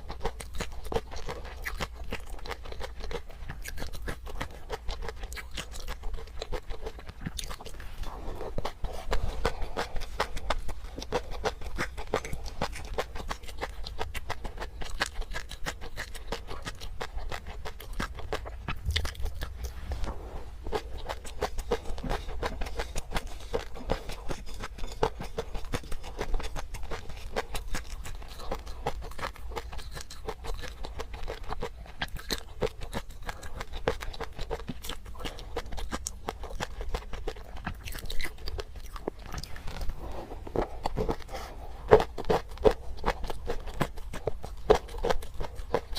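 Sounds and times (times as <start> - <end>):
person chewing and crunching food: 0.0 - 45.9.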